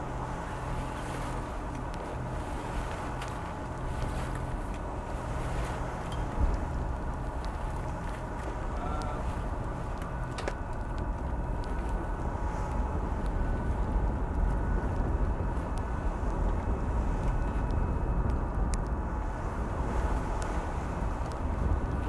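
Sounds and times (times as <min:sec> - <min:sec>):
boat engine running: 0:00.0 - 0:22.0
wind rumble: 0:00.0 - 0:22.0.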